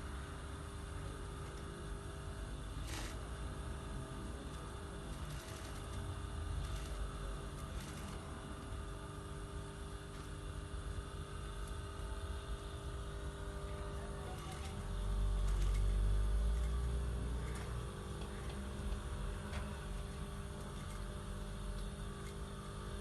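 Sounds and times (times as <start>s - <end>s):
industrial sewing machine humming: 0.0s - 23.0s.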